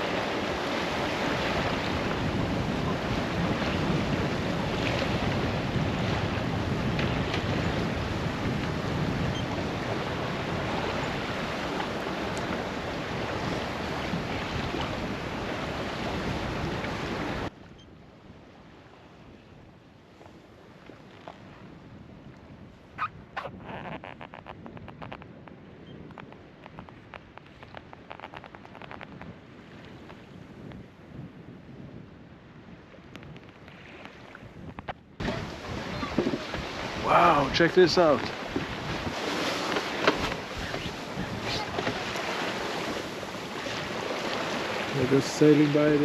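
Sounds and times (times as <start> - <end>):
wind and water rushing: 0.0 - 46.0
wind buffeting microphone: 0.0 - 46.0.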